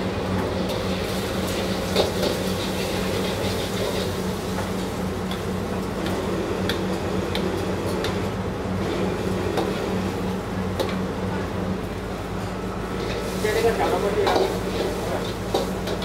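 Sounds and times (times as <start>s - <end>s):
gas burner roaring: 0.0s - 16.0s.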